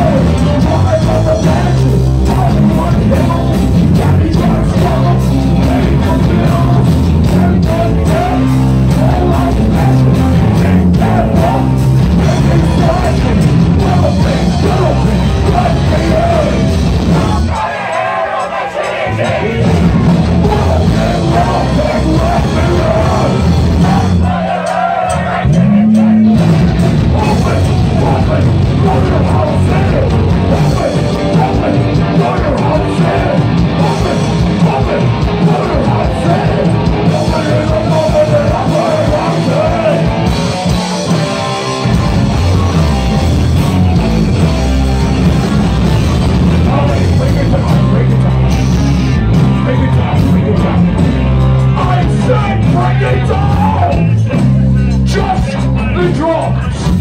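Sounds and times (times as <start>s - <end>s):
shouted vocals: 0.0s - 40.8s, 49.1s - 57.0s
punk rock band playing: 0.0s - 57.0s.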